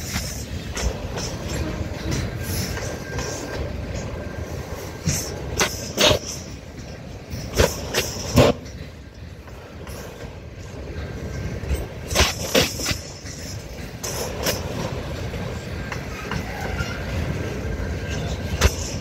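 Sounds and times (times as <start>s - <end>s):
freight train rumbling past: 0.0s - 19.0s
train wheel clacks: 0.0s - 19.0s.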